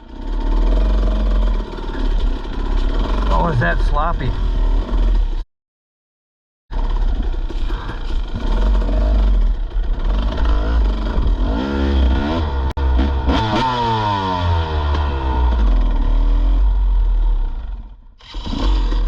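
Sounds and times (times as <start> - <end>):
dirt bike engine revving: 0.0 - 5.4, 6.7 - 19.0.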